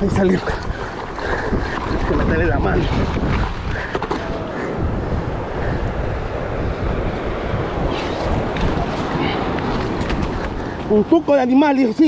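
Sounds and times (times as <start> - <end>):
wind buffeting microphone: 0.0 - 12.0
surf breaking on beach: 0.2 - 12.0.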